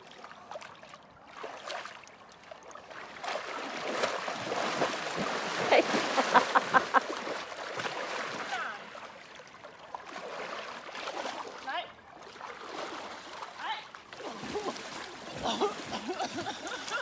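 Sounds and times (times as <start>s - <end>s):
horse splashing through water: 0.0s - 17.0s.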